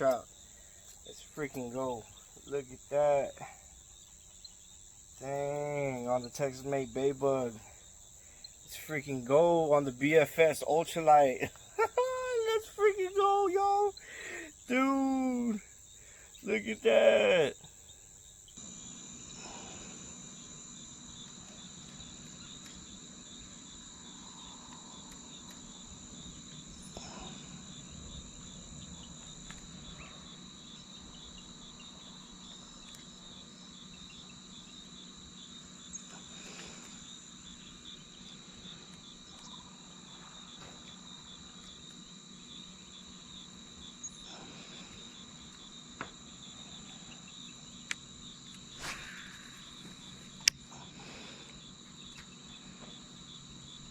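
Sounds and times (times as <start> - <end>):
insects chirping in a trill: 0.0 - 53.9.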